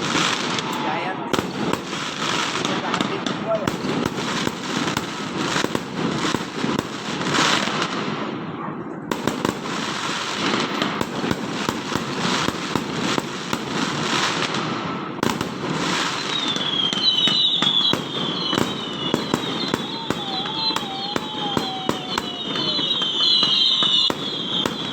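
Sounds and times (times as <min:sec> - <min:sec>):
fireworks crackling and banging: 0:00.0 - 0:24.9
whistling fireworks: 0:00.0 - 0:24.9.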